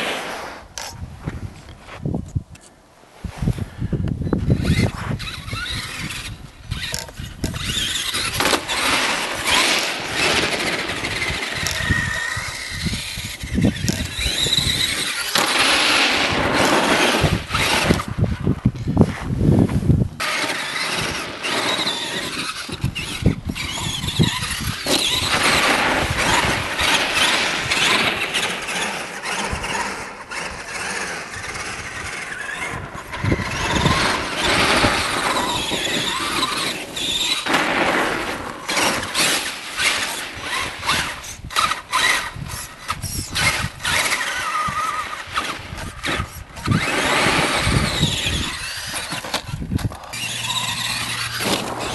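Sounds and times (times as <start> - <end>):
rc truck motor whining: 4.3 - 19.0, 20.2 - 51.9.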